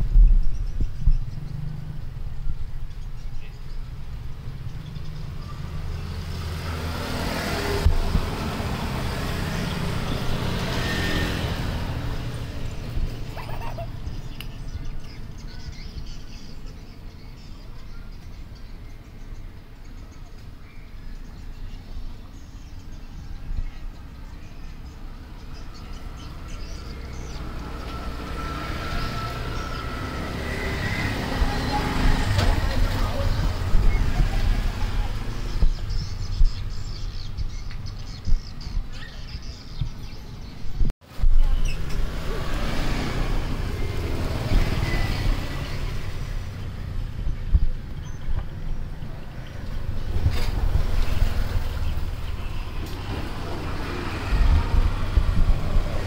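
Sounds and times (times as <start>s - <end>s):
vehicle engine passing by: 3.8s - 17.2s, 24.1s - 56.0s.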